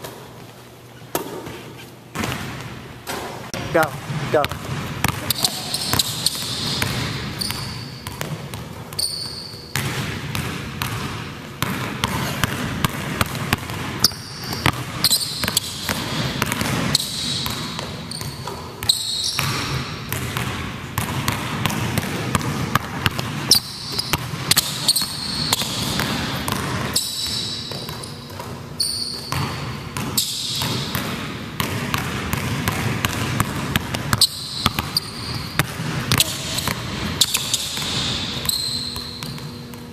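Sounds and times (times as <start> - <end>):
basketball bouncing on wooden floor: 2.1 - 3.3, 3.9 - 39.9.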